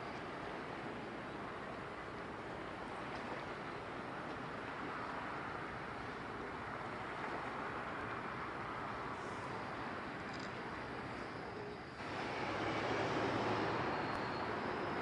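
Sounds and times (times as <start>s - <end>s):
ship engine and wash rushing: 0.0s - 15.0s.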